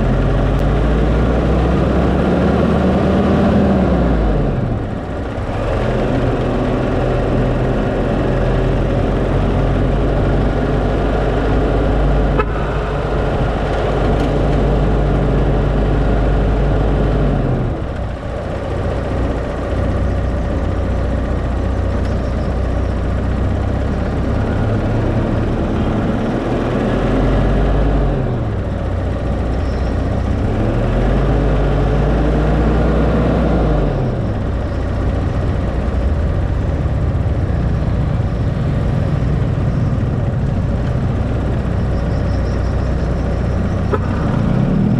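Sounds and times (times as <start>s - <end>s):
road noise: 0.0s - 44.9s
vehicle engine running: 0.0s - 44.9s.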